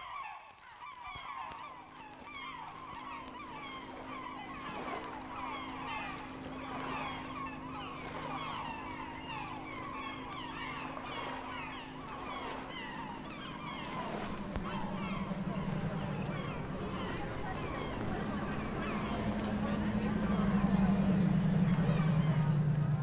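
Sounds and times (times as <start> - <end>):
flock of birds calling: 0.0 - 23.0
steady low hum: 1.8 - 23.0.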